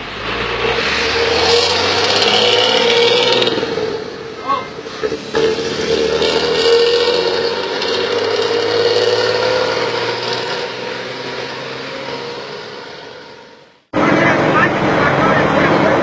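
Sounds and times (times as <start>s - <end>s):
bus with loud racing exhaust: 0.0s - 16.0s.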